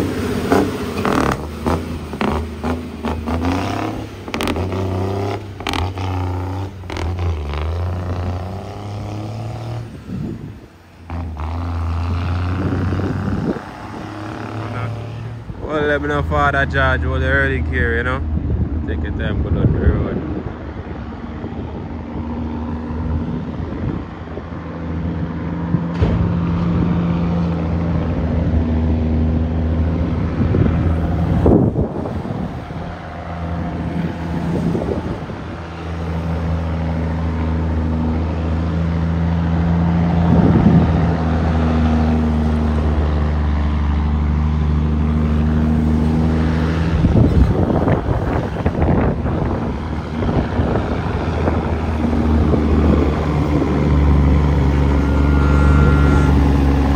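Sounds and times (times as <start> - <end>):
diesel truck engine changing gears: 0.0 - 56.9.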